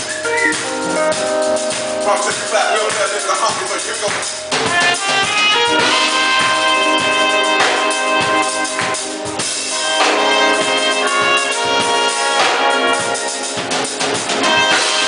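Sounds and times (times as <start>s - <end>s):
band playing: 0.0s - 15.0s
drum kit beat: 0.0s - 15.0s.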